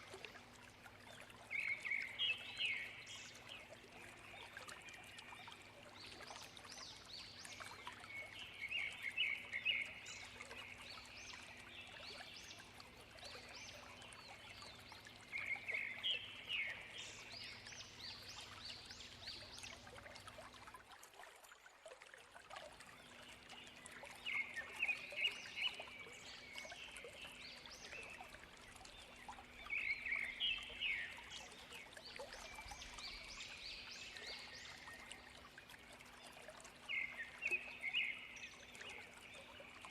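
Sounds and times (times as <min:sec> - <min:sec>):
songbird chirping: 0:00.9 - 0:19.9, 0:23.1 - 0:39.9.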